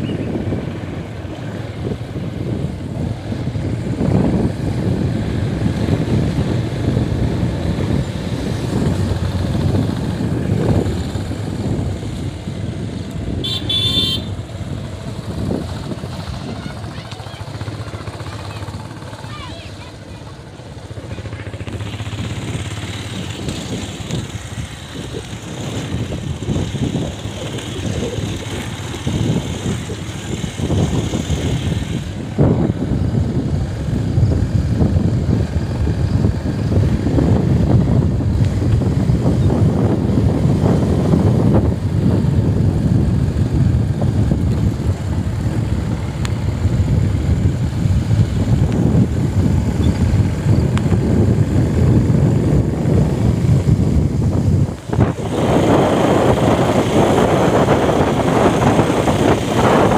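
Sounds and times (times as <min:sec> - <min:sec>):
motorcycle engine and road rumble: 0:00.0 - 0:59.9.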